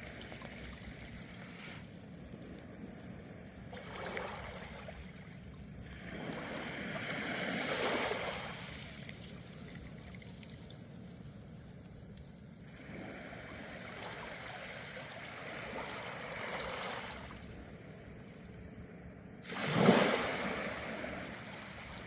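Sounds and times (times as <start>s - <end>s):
small waves washing on shore: 0.0s - 22.0s.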